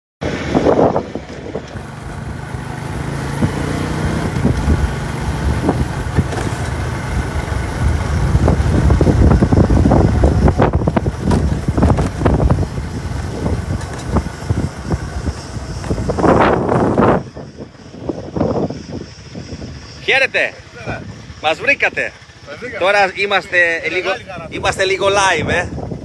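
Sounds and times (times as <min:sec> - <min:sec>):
motor vehicle engine rumble: 0:00.2 - 0:26.0.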